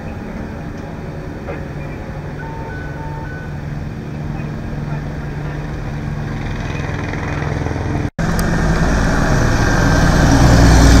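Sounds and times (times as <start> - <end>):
fire engine driving past: 0.0 - 11.0.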